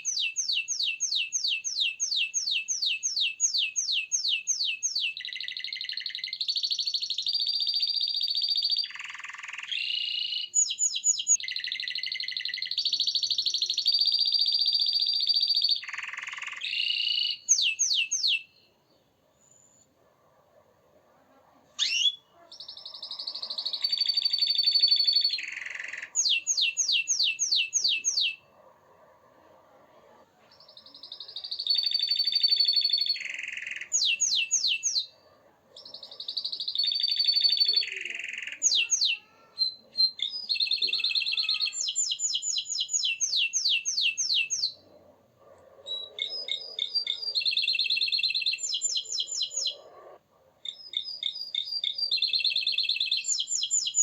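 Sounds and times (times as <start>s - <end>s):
canary singing trills: 0.0s - 20.0s, 21.7s - 54.0s.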